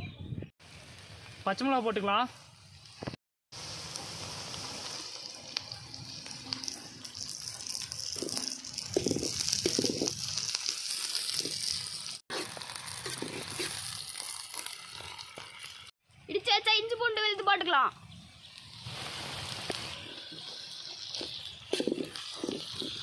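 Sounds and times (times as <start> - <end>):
food sizzling in hot oil: 0.6 - 16.0, 18.1 - 23.0.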